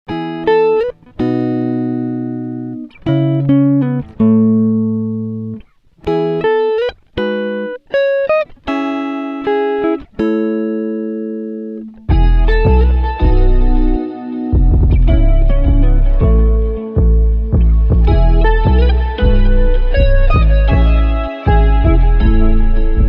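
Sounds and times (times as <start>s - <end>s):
solo guitar playing: 0.1s - 23.0s.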